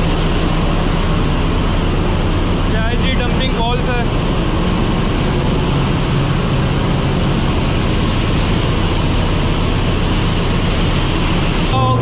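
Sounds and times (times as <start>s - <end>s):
engine room machinery drone: 0.0s - 12.0s.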